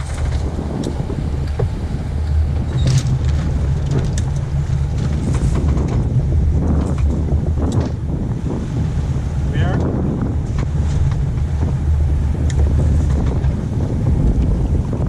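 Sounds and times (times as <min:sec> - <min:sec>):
water splashing along hull: 0:00.0 - 0:15.0
wind buffeting microphone: 0:00.0 - 0:15.0.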